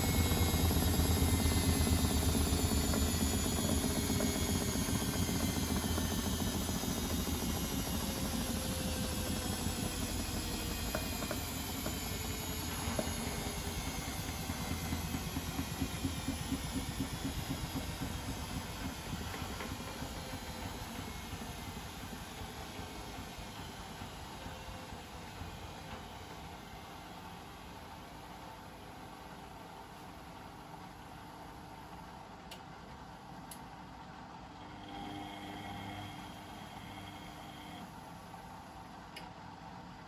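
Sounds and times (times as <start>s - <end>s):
washing machine drum spinning down: 0.0s - 32.0s, 33.8s - 38.8s.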